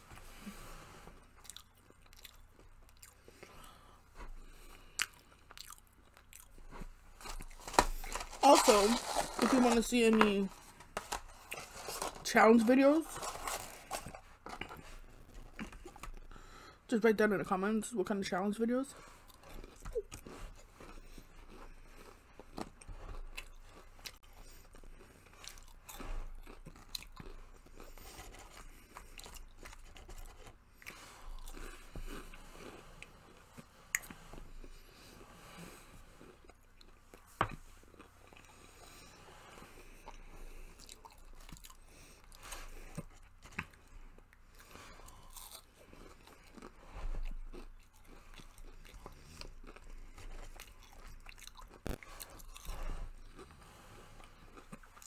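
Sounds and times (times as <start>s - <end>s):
chewing and crunching fried food: 0.0s - 16.8s, 18.7s - 55.0s.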